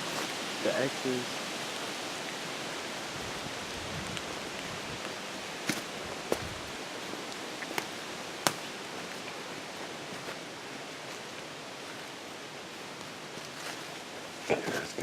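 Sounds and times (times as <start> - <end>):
rain hissing in woodland: 0.0 - 15.0.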